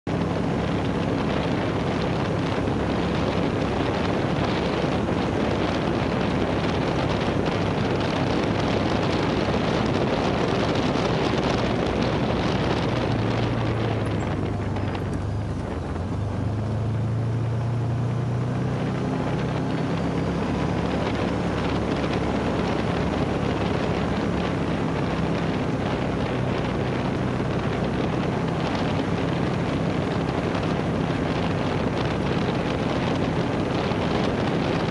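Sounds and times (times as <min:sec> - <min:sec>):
vehicle engine running: 0:00.0 - 0:34.9
wind noise: 0:00.1 - 0:34.9.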